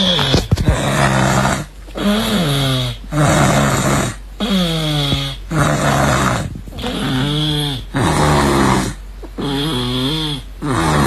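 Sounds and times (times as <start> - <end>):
person snoring: 0.0 - 11.0.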